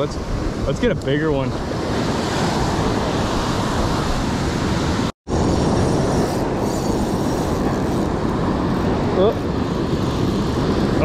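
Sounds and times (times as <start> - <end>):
wind buffeting microphone: 0.0 - 11.0
ocean surf breaking: 0.2 - 11.0.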